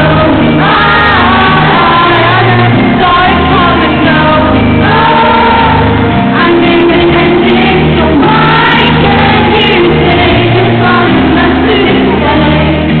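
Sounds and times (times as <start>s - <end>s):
keyboard and guitars: 0.0s - 13.0s
woman singing: 0.0s - 13.0s.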